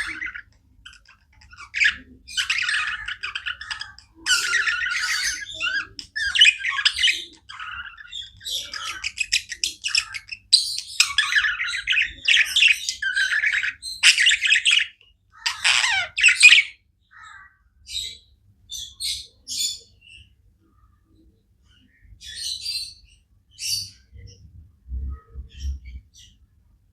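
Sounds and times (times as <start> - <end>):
budgerigars chirping and chattering: 0.0 - 24.5, 25.2 - 26.4.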